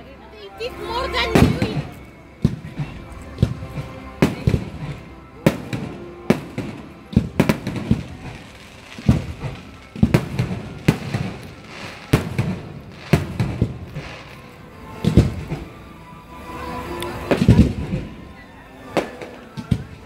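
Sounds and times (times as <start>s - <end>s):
fireworks crackling: 1.0s - 15.9s, 16.8s - 20.0s
fireworks bursting with bangs: 1.3s - 15.7s, 17.2s - 18.1s, 19.0s - 20.0s.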